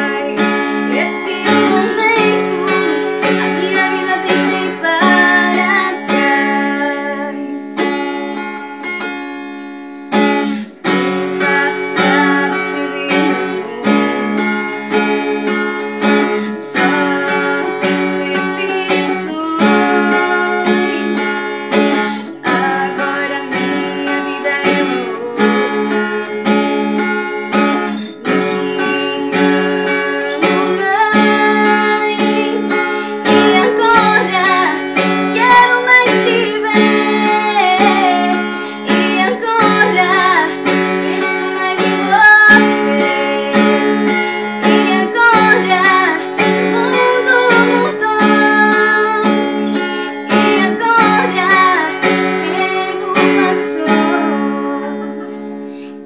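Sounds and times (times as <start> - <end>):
woman singing: 0.0 - 8.6, 10.2 - 56.0
strummed acoustic guitar: 0.0 - 56.0.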